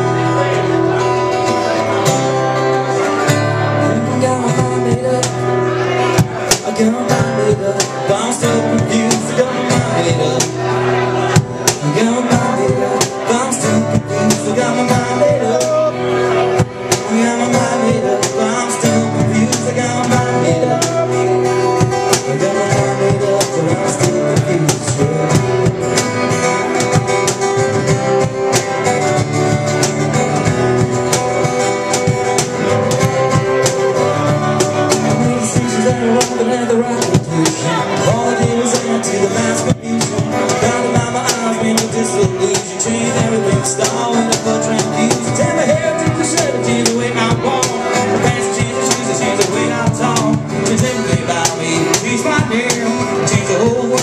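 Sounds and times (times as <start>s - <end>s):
acoustic guitars strummed: 0.0s - 54.0s
percussion beat: 3.3s - 54.0s.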